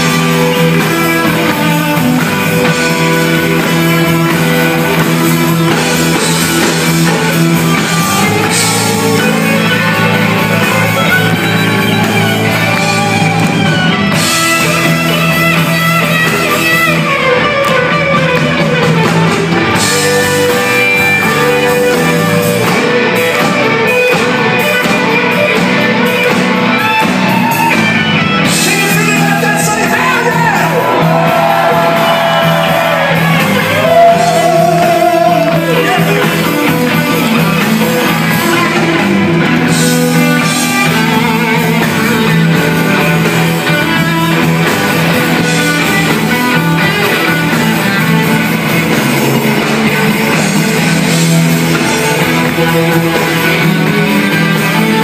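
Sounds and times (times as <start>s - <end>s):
electric guitar lead bending: 0.0s - 55.0s
rock band playing live: 0.0s - 55.0s.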